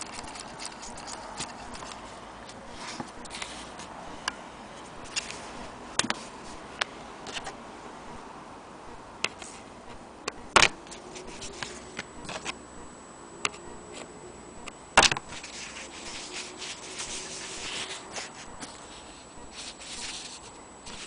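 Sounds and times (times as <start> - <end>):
faint high whine: 0.0 - 21.0.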